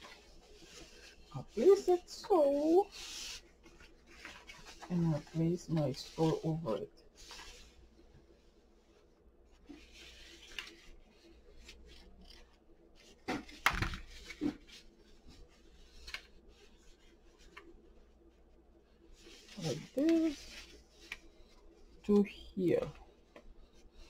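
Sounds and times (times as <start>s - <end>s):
paper rustling: 0.0s - 7.8s, 9.6s - 18.2s, 19.0s - 22.0s.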